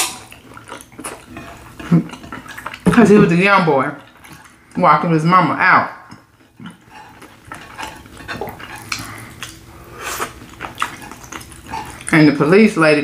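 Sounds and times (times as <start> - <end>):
chewing: 0.0 - 4.8, 6.0 - 12.2.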